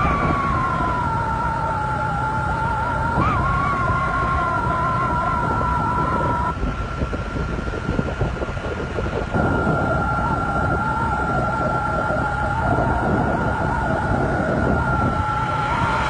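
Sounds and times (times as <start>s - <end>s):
wavering pitched tone: 0.0s - 8.1s, 9.1s - 16.0s
road rumble: 0.0s - 16.0s
steady high whine: 0.0s - 16.0s
wind buffeting microphone: 0.0s - 16.0s.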